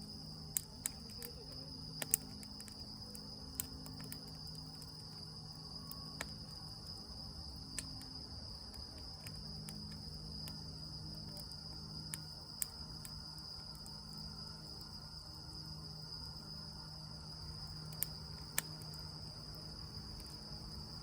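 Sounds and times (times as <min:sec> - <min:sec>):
campfire crackling and popping: 0:00.0 - 0:21.0
crickets trilling: 0:00.0 - 0:21.0.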